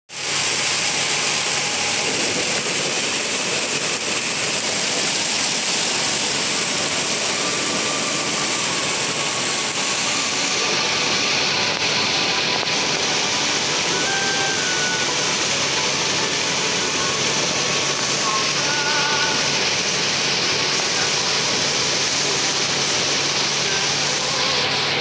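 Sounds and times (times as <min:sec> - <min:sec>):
rain: 0:00.1 - 0:25.0
vehicle engine: 0:00.1 - 0:25.0
wet road noise: 0:00.1 - 0:25.0.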